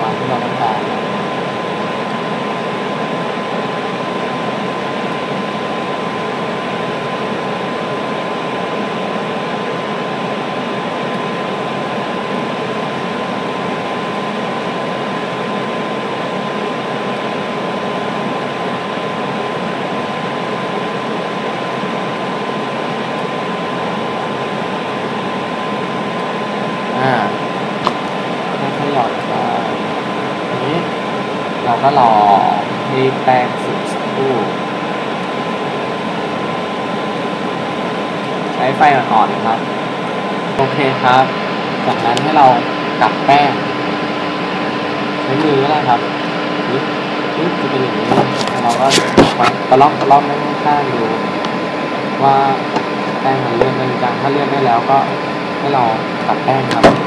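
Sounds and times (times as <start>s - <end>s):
fan whirring: 0.0s - 57.0s.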